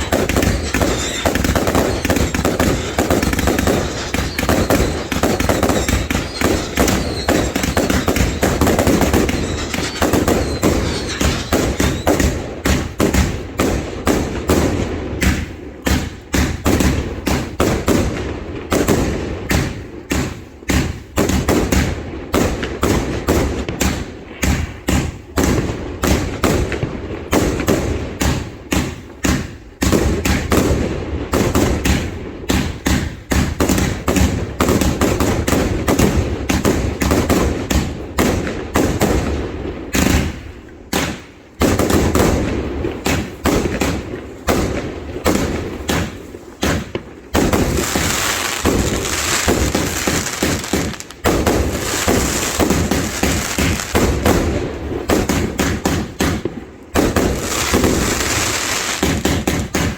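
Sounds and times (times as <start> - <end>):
fireworks barrage: 0.0 - 59.9.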